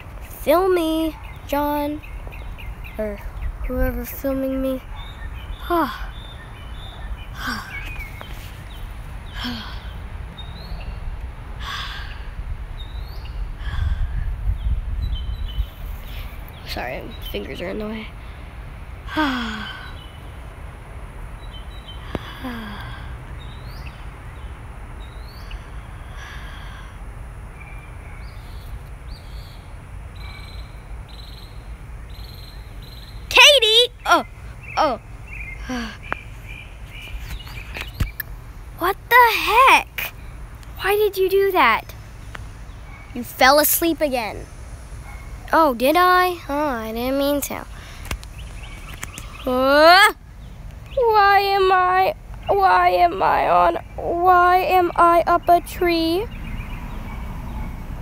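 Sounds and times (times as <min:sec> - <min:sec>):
low outdoor rumble: 0:00.0 - 0:58.0
small birds chirping: 0:00.0 - 0:58.0.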